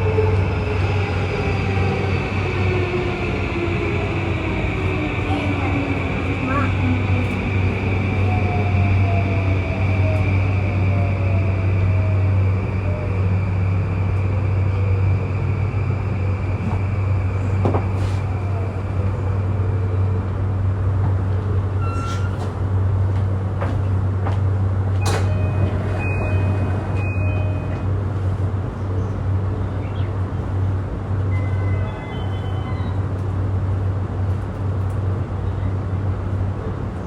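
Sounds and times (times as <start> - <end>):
train running rumble and hum: 0.0 - 37.0.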